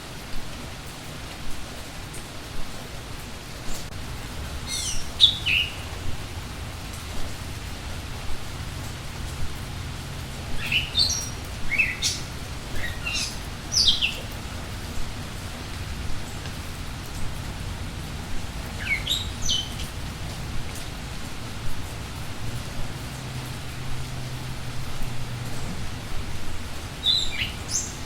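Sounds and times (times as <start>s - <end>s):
steady rain: 0.0s - 28.0s
songbirds chirping: 3.5s - 28.0s.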